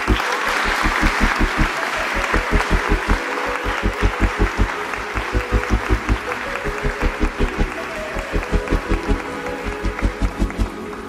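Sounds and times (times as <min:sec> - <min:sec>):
music with fast bass beat: 0:00.0 - 0:10.8
crowd applause: 0:00.0 - 0:11.0.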